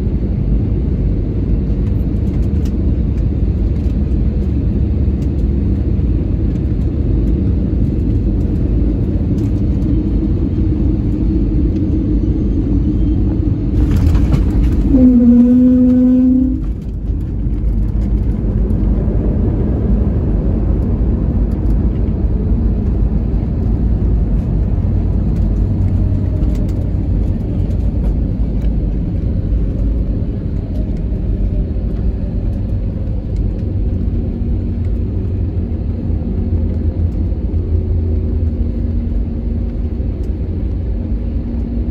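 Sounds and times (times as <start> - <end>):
airliner rumble: 0.0 - 41.9
pitched hum: 0.6 - 41.9.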